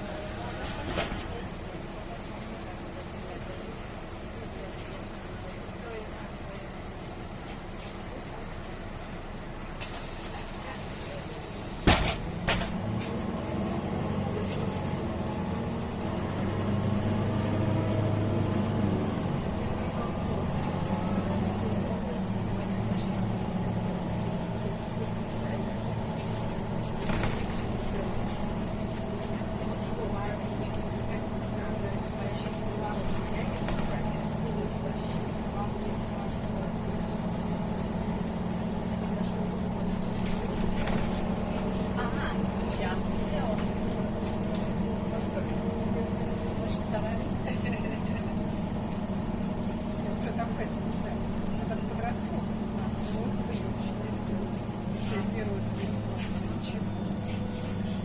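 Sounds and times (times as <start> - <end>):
bus diesel engine droning: 0.0 - 58.0
road and body noise: 9.8 - 58.0.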